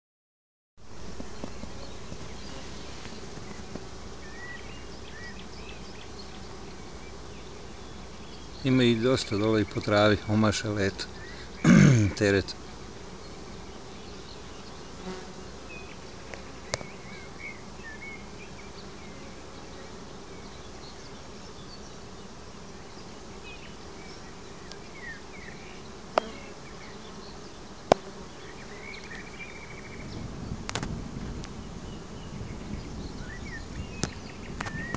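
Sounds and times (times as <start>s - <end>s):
honeybees buzzing: 0.8s - 34.9s.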